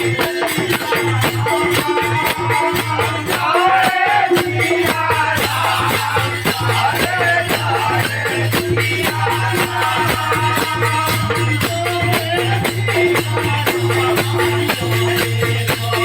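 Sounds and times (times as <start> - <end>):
shaken percussion: 0.0 - 16.0.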